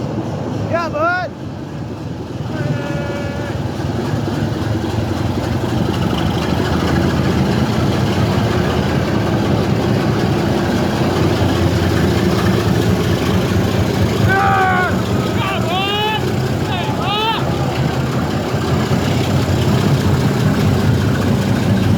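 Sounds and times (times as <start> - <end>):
train engine rumble: 0.0 - 21.9.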